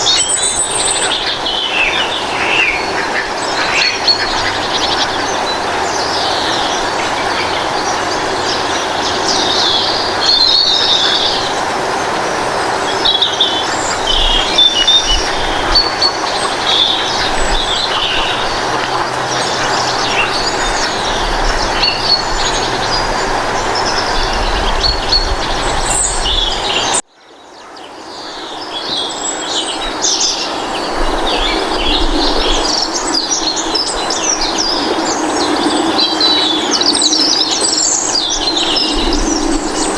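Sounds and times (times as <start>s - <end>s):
small birds chirping and singing: 0.0s - 39.9s
steady background noise: 0.0s - 39.9s.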